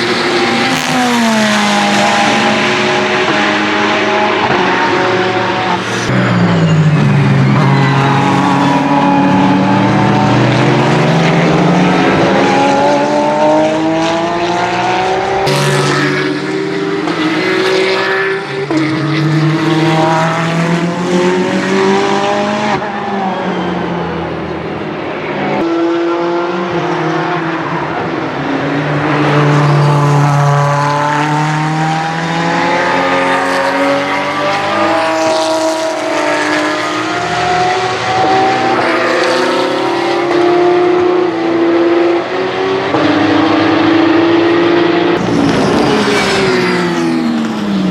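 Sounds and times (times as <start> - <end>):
race car engine passing: 0.0 - 47.9.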